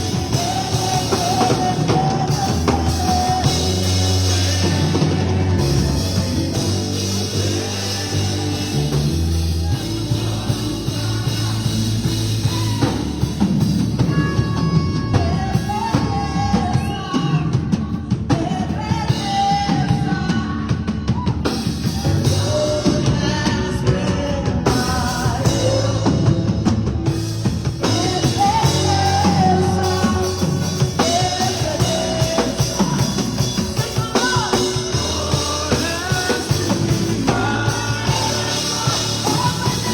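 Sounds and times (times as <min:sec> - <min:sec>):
person singing: 0:00.0 - 0:26.7, 0:27.8 - 0:39.9
bass: 0:00.0 - 0:39.9
drum kit: 0:00.0 - 0:39.9.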